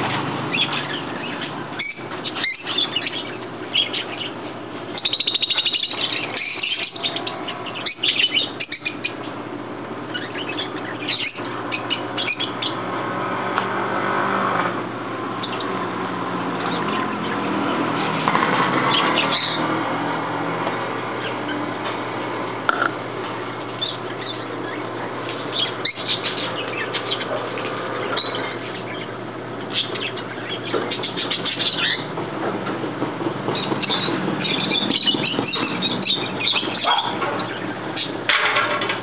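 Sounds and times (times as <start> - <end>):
birds chirping: 0.0 - 13.4, 14.8 - 32.4, 33.4 - 39.0.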